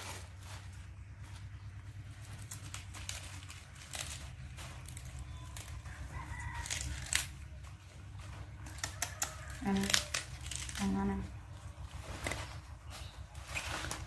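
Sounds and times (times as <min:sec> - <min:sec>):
steady low hum: 0:00.0 - 0:14.0
lettuce leaves tearing: 0:01.8 - 0:14.0.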